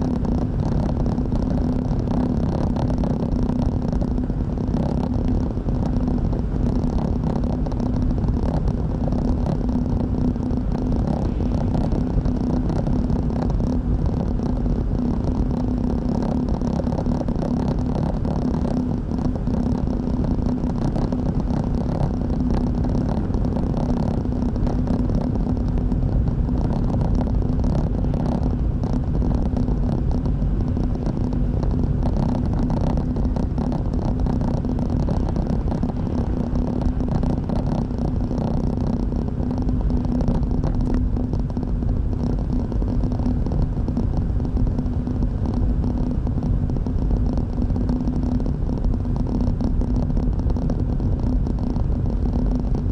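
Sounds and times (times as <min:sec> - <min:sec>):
low engine hum: 0:00.0 - 0:52.9.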